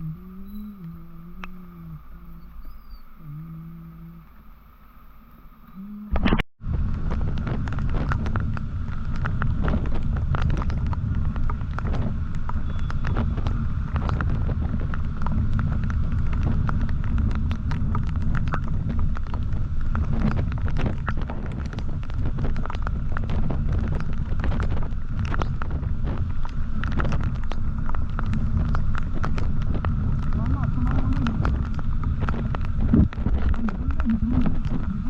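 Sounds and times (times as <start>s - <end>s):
crackling wind buffets: 0.0s - 35.0s
motorcycle engine and road noise: 0.0s - 35.0s
wind rushing over microphone: 0.0s - 35.0s.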